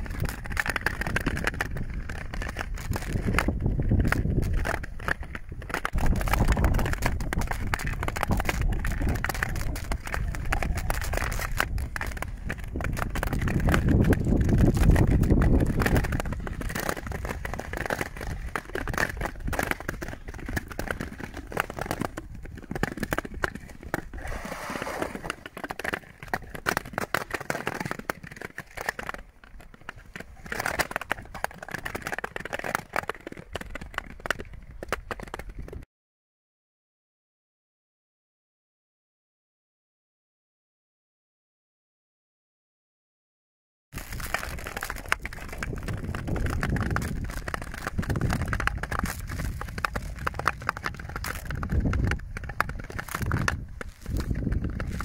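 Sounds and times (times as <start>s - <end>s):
ice crackling: 0.0s - 35.8s, 44.0s - 55.0s
ice skates scraping on ice: 0.1s - 35.8s, 44.0s - 55.0s.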